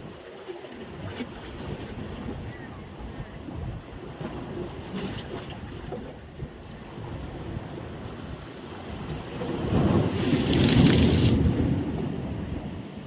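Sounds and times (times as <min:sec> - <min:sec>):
surf at shore: 0:00.0 - 0:13.0
wind on microphone: 0:00.8 - 0:13.0.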